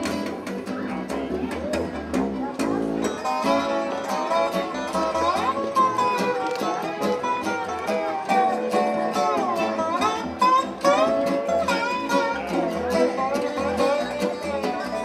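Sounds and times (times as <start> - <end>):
acoustic guitar: 0.0 - 15.0
dobro: 0.0 - 15.0
fiddle: 0.0 - 15.0
upright bass: 0.0 - 15.0.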